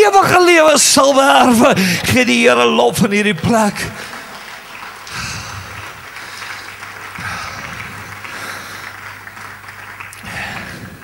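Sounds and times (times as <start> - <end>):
congregation clapping: 0.0 - 11.0.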